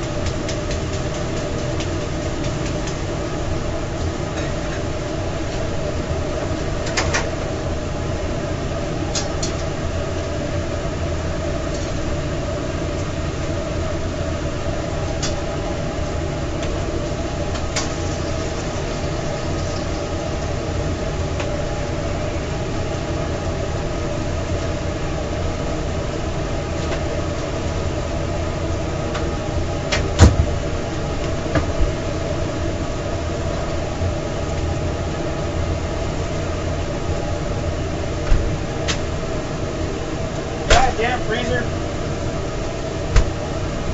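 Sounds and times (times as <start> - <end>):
kitchen equipment hum and rumble: 0.0 - 43.9.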